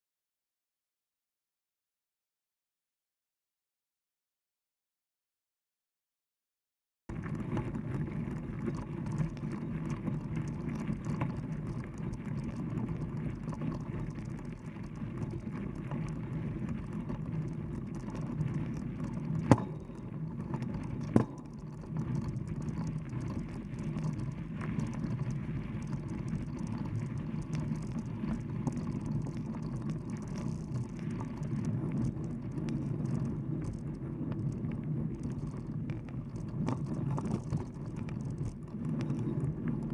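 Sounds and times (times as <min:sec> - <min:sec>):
bike tyres rumbling on gravel: 0:07.1 - 0:39.9.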